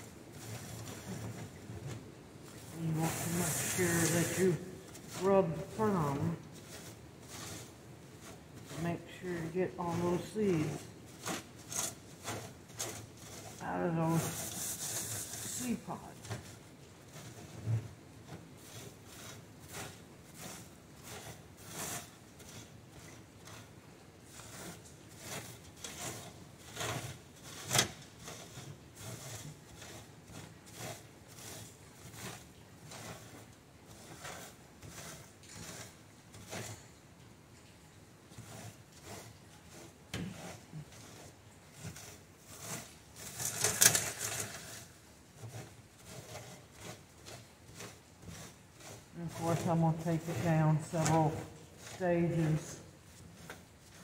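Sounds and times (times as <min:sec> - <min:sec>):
loud scrape: 0:00.0 - 0:01.6, 0:02.5 - 0:37.0, 0:38.3 - 0:54.0
seed heads rubbed on wire mesh: 0:00.0 - 0:37.2, 0:38.2 - 0:54.0.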